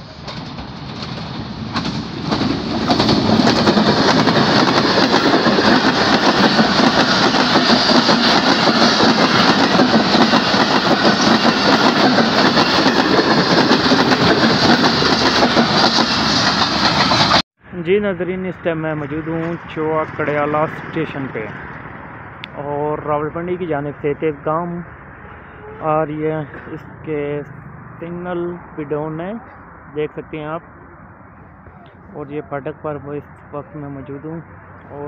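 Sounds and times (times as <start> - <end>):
train wheels rushing on rails: 0.0 - 28.8
train coaches rattling: 0.0 - 35.0.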